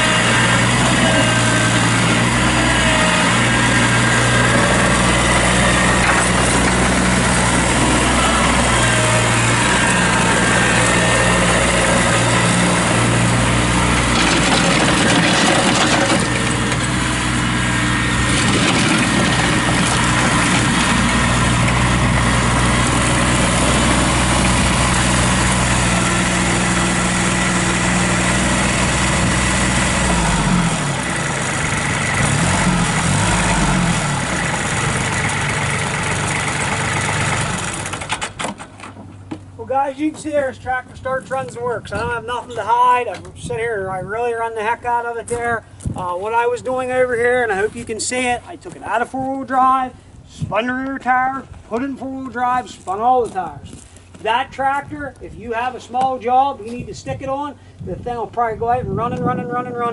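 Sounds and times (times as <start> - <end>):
tractor diesel engine running: 0.0 - 50.2.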